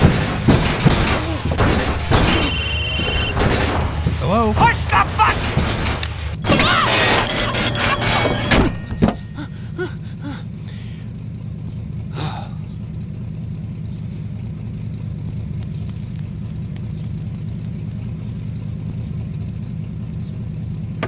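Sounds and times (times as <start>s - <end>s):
car engine starting and idling: 0.0s - 21.0s.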